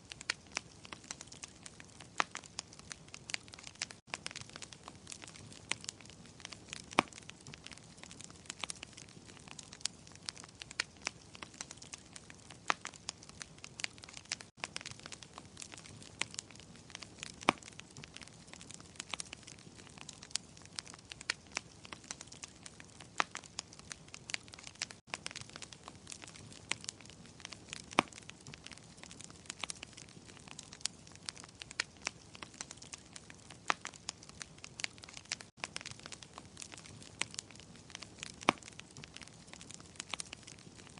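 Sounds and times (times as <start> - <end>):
fire soft hiss: 0.0 - 40.9
wood fire crackling and popping: 0.0 - 40.9.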